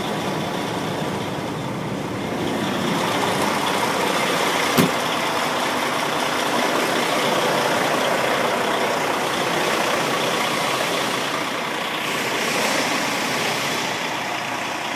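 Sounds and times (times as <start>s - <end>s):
truck diesel engine rumbling: 0.0s - 14.9s.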